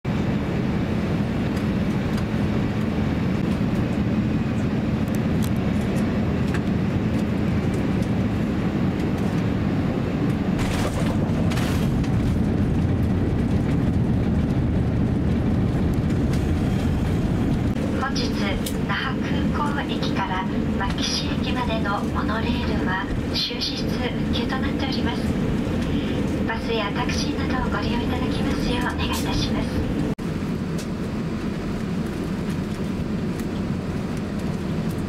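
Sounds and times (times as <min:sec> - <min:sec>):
aircraft cabin rumble: 0:00.0 - 0:35.0.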